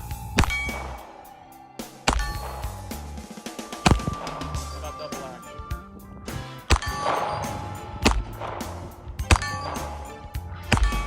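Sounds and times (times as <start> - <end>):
background music: 0.0 - 11.0
revolver shots with ringing tail: 0.0 - 11.0.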